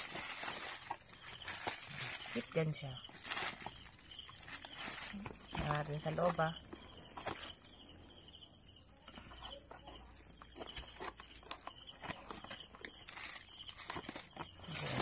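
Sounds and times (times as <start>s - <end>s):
cardboard box crinkling and scraping: 0.0s - 7.6s, 9.2s - 15.0s
crickets chirring: 0.0s - 15.0s.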